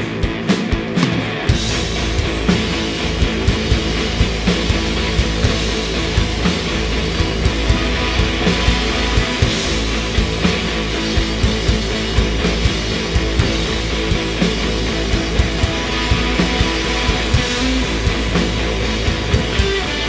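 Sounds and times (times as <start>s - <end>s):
drum kit beat: 0.0s - 20.0s
electric guitars: 0.0s - 20.0s.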